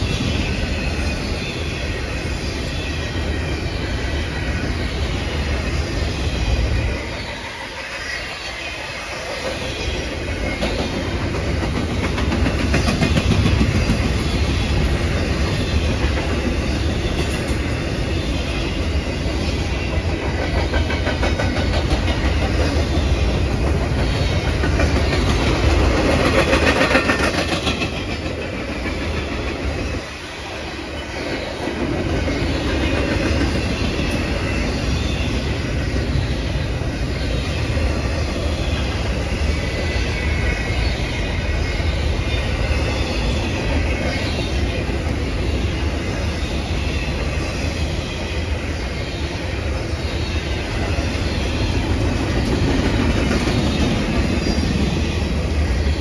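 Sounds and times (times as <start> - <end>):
freight train rumble: 0.0 - 56.0
steel wheels clicking on rails: 0.0 - 56.0.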